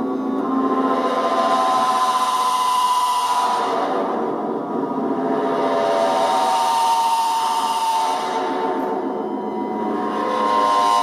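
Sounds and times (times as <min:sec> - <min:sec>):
buzzy synth tone: 0:00.0 - 0:11.0.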